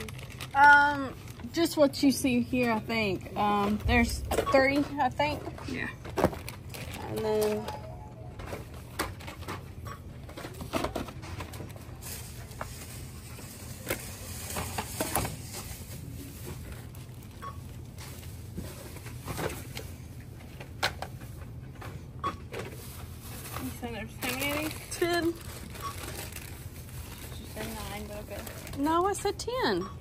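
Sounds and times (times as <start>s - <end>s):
steady low hum: 0.0s - 30.0s
items knocking and rustling: 3.4s - 29.0s.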